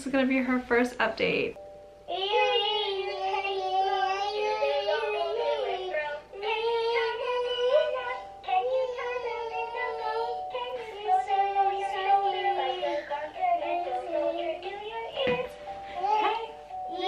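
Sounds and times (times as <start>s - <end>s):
synthetic voice singing children's song: 2.1s - 17.0s.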